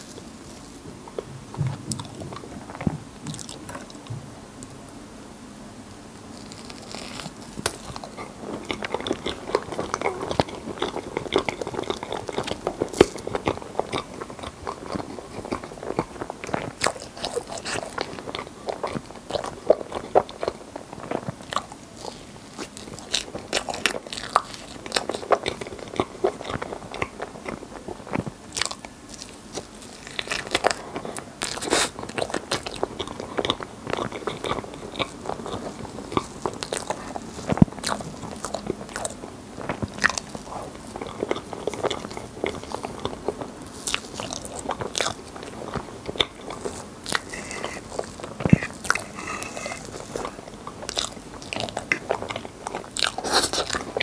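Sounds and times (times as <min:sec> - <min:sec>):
wet chewing and lip-smacking: 0:06.2 - 0:54.0.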